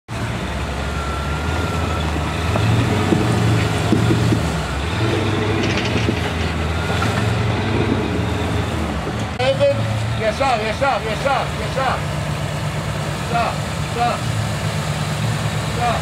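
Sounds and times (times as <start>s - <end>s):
engine running at low revs: 0.1s - 16.0s.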